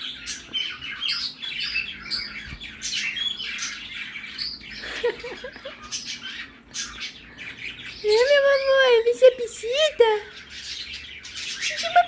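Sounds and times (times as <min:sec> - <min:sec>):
cockatiel chirping and squawking: 0:00.0 - 0:08.0, 0:10.3 - 0:12.0.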